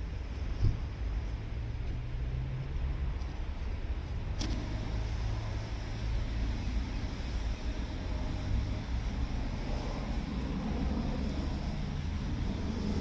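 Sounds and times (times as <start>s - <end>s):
fluctuating low rumble: 0.0s - 13.0s.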